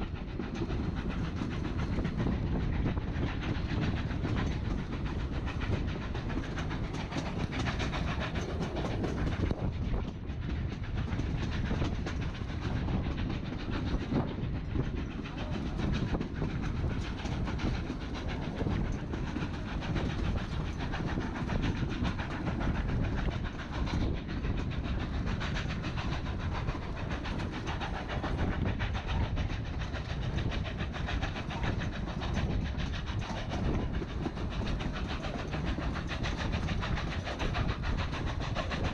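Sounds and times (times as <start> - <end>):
rattling clatter of train cars: 0.0 - 38.9
train wheels rumbling on rail: 0.0 - 38.9.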